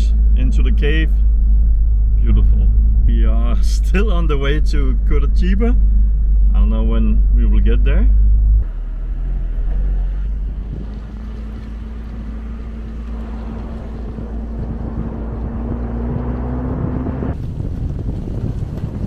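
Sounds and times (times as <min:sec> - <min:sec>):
road and wind noise: 0:00.0 - 0:19.0
vehicle engine drone: 0:00.0 - 0:19.0.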